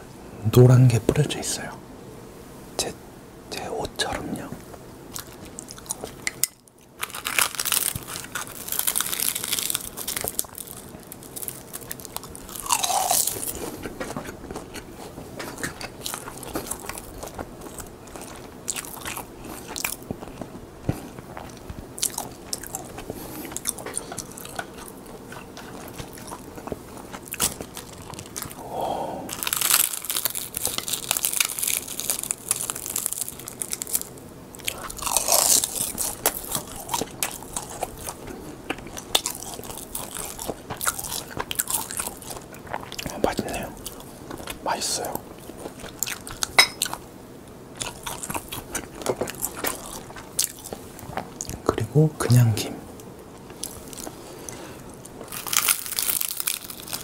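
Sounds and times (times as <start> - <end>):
crunching and chewing crisp sheets: 4.1 - 57.0.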